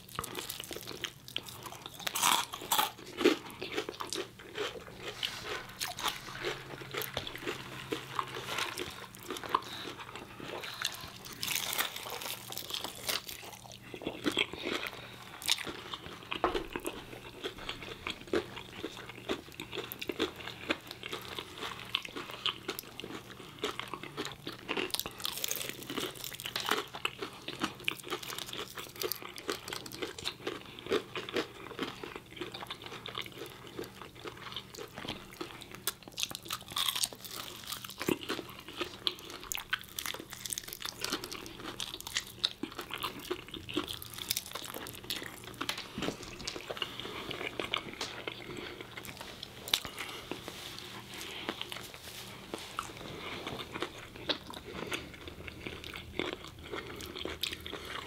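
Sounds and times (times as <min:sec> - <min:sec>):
crunching and chewing fried food: 0:00.0 - 0:58.0.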